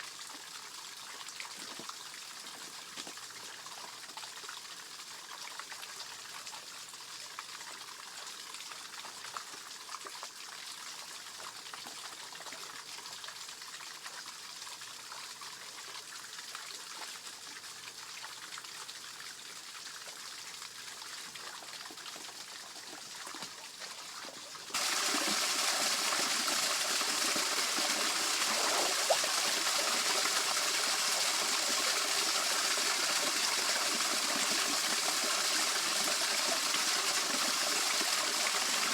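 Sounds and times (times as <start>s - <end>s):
water trickling over small waterfall: 0.0s - 38.9s.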